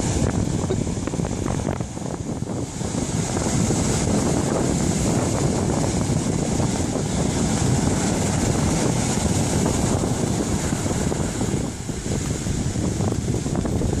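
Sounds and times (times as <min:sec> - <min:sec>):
surf washing up a beach: 0:00.0 - 0:14.0
wind buffeting microphone: 0:00.0 - 0:14.0.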